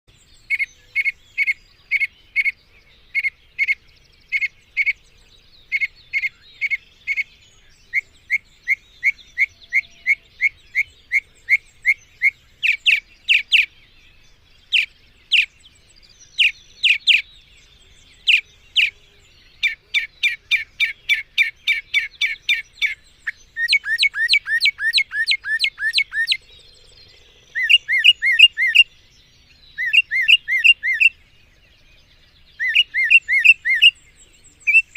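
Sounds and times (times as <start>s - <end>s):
mockingbird singing: 0.1s - 34.9s.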